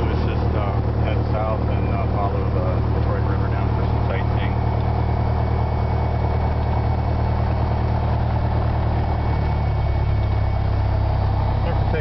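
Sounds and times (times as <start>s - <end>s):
light plane engine droning: 0.0s - 12.0s.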